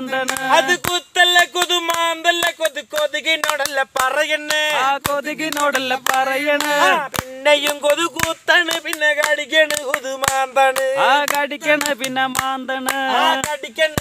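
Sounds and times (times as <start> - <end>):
men singing a folk song: 0.0 - 14.0
hands clapping: 0.2 - 14.0.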